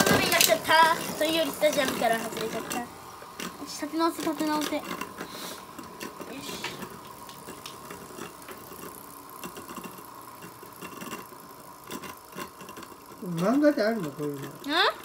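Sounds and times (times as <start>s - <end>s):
spinning tops whirring rattle: 0.0s - 15.0s.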